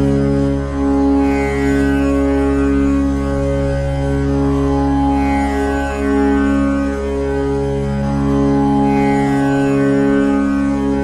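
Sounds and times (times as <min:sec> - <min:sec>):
tanpura drone: 0:00.0 - 0:11.0.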